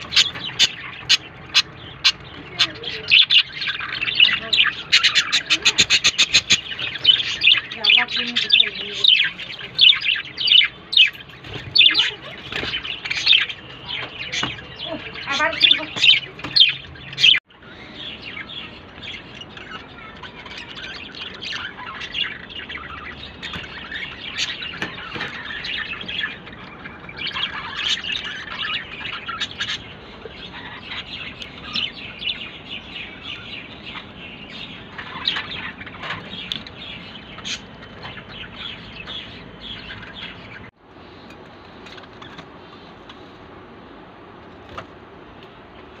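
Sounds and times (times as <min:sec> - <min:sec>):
budgerigars chirping: 0:00.0 - 0:40.7.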